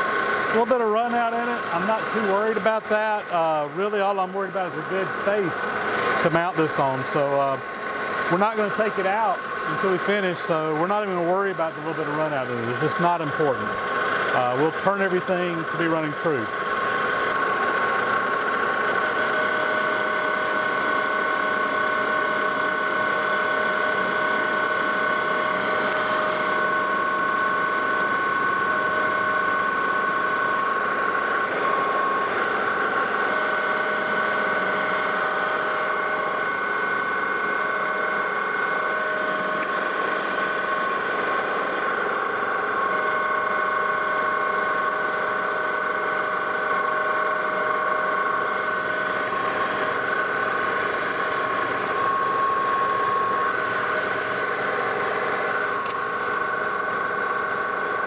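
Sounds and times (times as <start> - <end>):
metal lathe whining: 0.0 - 58.0.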